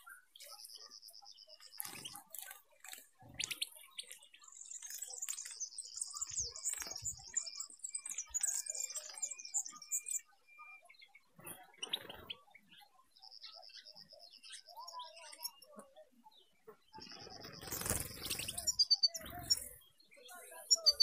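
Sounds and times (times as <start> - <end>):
finches twittering song: 0.0 - 21.0.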